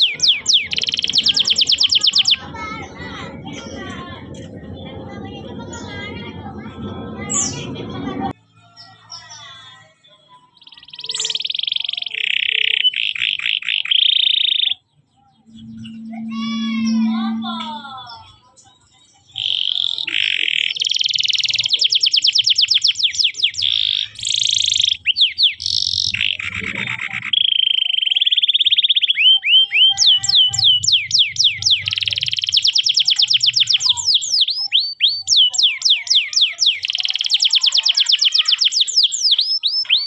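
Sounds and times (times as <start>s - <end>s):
canary singing: 0.0s - 40.0s.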